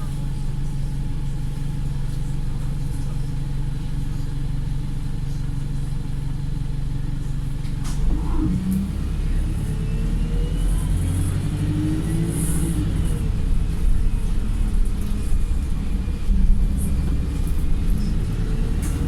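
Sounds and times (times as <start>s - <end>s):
bus engine running under load: 0.0s - 19.0s.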